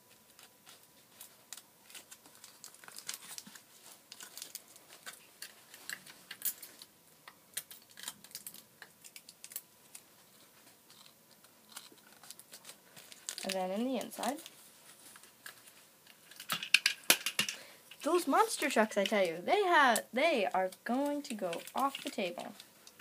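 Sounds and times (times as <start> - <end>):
tape crackling on cardboard: 0.0 - 20.0, 20.6 - 23.0.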